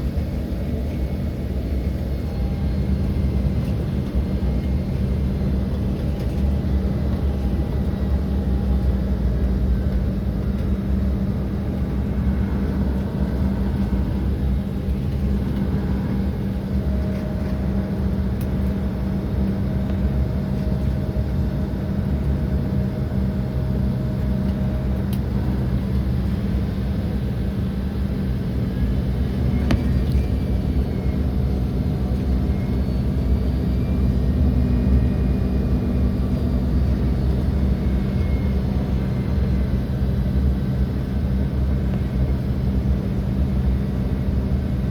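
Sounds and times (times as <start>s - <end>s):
low engine rumble: 0.0s - 44.9s.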